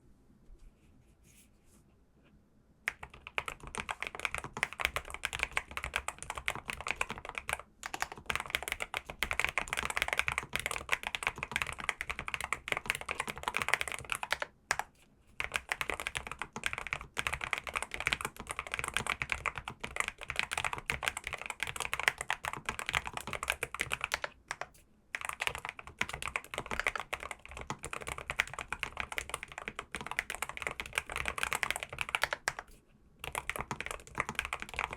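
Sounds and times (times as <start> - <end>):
mechanical keyboard typing: 2.9 - 34.9.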